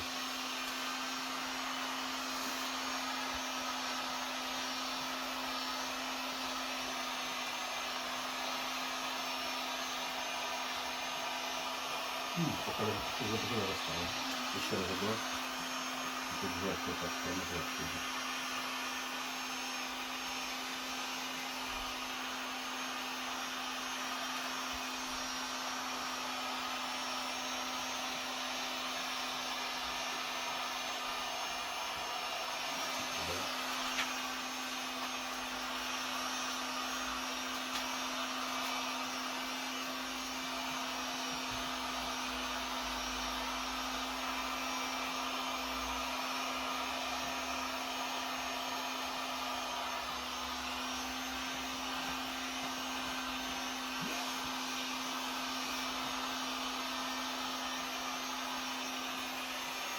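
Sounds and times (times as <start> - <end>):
heat gun blowing: 0.0 - 59.9.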